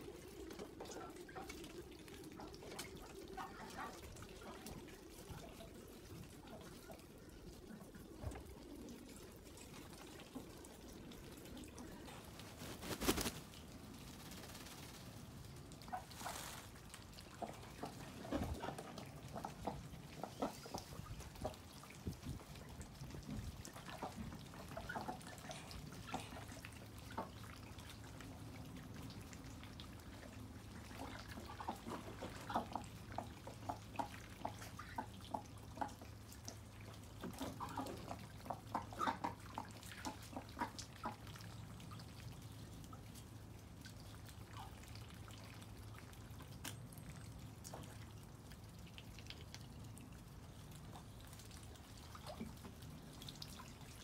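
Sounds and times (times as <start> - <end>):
water dripping and splashing: 0.0 - 54.0.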